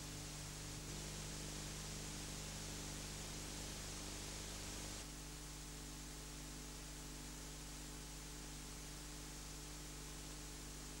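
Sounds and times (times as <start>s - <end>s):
faint tape hiss: 0.0s - 11.0s
low electrical hum: 0.0s - 11.0s.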